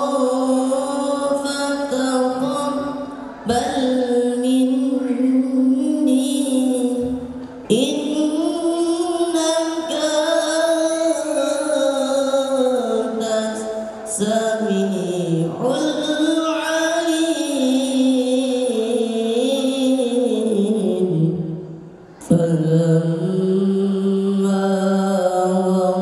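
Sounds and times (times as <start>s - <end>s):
man chanting into microphone: 0.0s - 26.0s.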